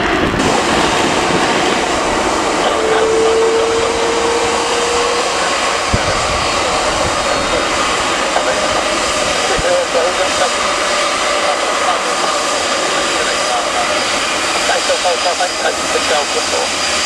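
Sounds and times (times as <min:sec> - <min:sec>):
jet engines: 0:00.0 - 0:17.0
wind: 0:00.0 - 0:17.0
steady tone: 0:00.4 - 0:17.0.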